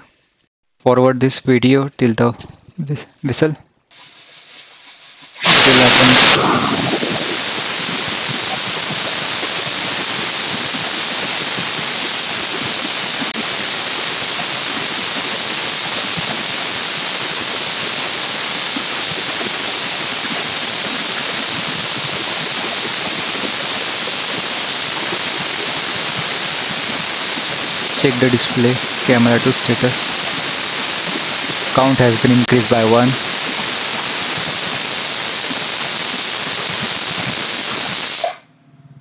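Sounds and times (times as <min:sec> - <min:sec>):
pressure cooker steam hissing: 0:03.9 - 0:38.4.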